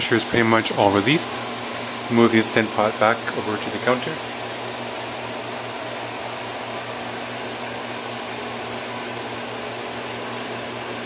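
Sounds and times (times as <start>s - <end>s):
range hood fan rushing air: 0.0s - 11.0s.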